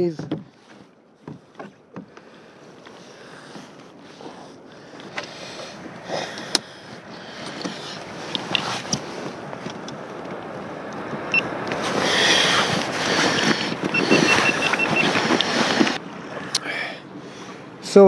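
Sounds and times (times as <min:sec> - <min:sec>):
gear rustling and clicking: 0:00.6 - 0:16.0.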